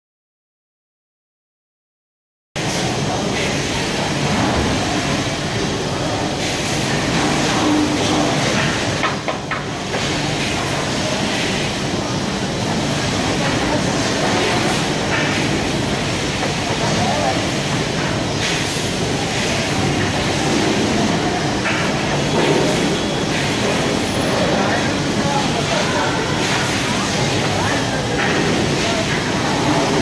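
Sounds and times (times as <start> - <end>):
factory machinery and conveyors: 2.6 - 30.0.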